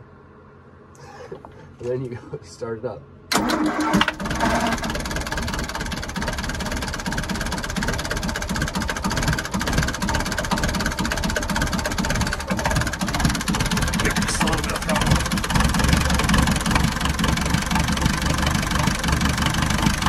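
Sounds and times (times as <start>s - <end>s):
diesel engine cranking and idling: 3.3s - 20.0s.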